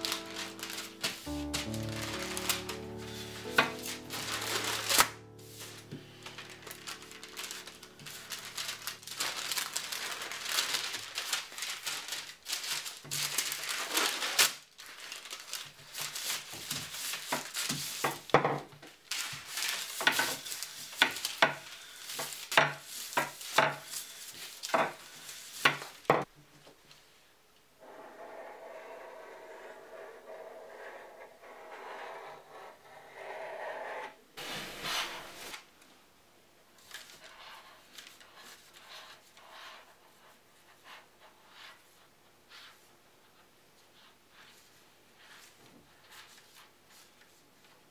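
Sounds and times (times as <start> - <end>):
parchment paper rustling: 0.0 - 26.2, 34.4 - 35.7, 36.8 - 47.9.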